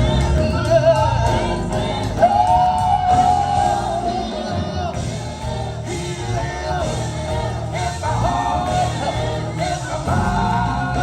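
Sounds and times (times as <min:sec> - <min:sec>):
gospel singing: 0:00.0 - 0:11.0
instrumental backing: 0:00.0 - 0:11.0.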